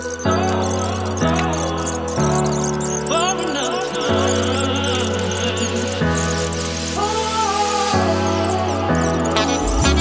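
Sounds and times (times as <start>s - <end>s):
background music sustained chords: 0.0s - 10.0s
birds chirping: 0.0s - 10.0s.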